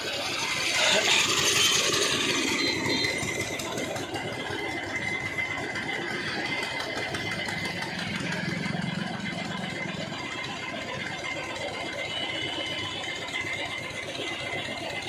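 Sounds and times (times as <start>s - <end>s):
air compressor running: 0.0s - 15.0s.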